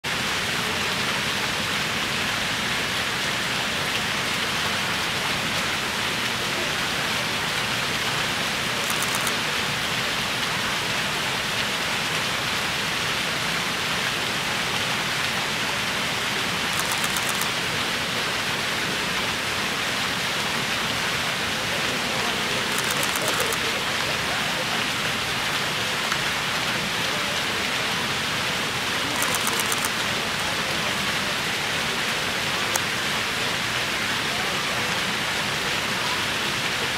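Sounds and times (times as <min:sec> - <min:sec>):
fountain water splashing: 0:00.0 - 0:36.9.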